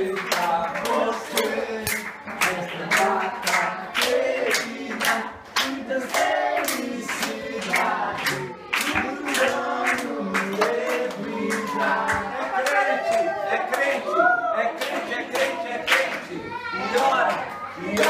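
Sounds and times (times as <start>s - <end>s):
rhythmic hand clapping: 0.0s - 18.0s
voices singing together: 0.0s - 18.0s.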